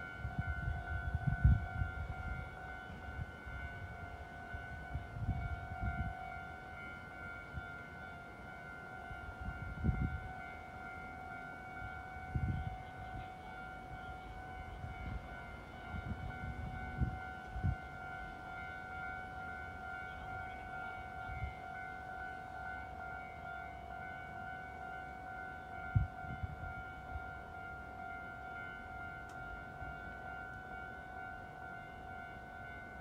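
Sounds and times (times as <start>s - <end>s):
electric train electrical whine: 0.0s - 33.0s.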